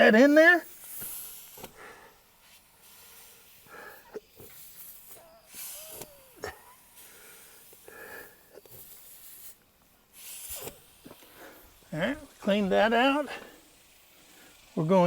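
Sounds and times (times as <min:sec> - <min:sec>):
reamer rasping in tire: 0:00.0 - 0:15.0.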